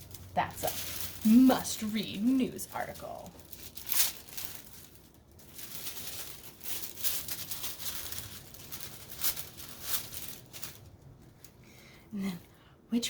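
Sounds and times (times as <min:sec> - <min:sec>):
paper rustling and crinkling: 0:00.0 - 0:11.9.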